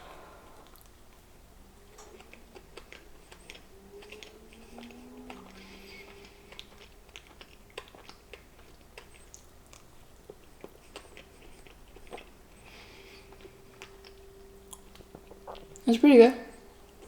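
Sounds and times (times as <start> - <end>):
chewing soft cake: 0.6 - 15.9.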